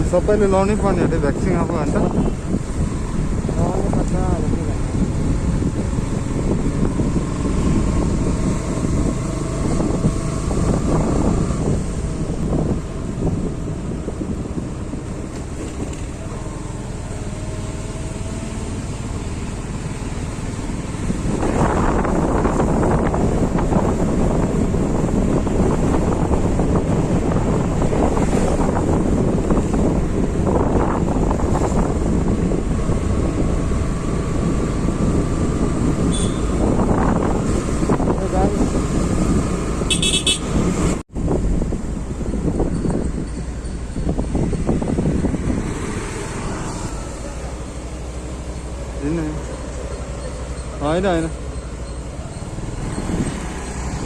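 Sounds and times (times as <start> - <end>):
wind rushing over microphone: 0.0 - 49.8, 52.2 - 54.0
motorcycle engine and road noise: 0.0 - 54.0.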